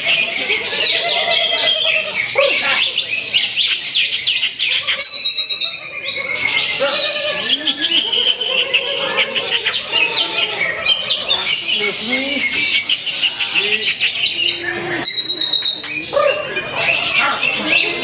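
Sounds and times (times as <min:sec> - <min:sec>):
bird singing high chirps and trills: 0:00.0 - 0:18.0
faint voices: 0:00.0 - 0:18.0
other birds: 0:00.0 - 0:18.0.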